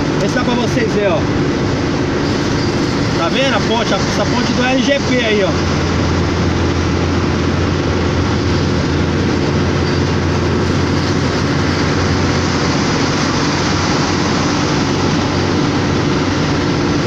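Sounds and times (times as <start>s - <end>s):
diesel truck engine running: 0.0s - 17.0s
tyres hissing on wet road: 0.0s - 17.0s.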